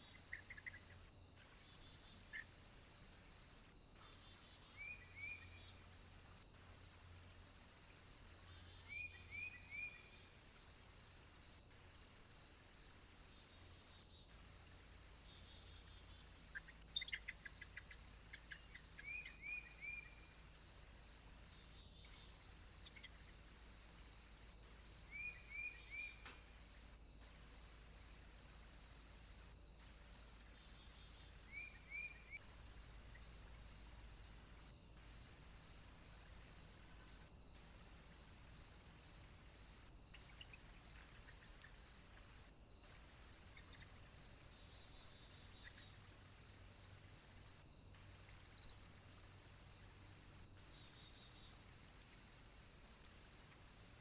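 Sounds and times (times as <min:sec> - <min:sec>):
high insect chirp: 0:00.0 - 0:54.0.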